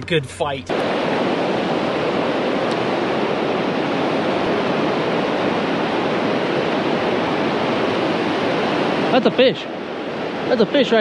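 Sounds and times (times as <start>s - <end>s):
whitewater rapids rushing: 0.7s - 11.0s.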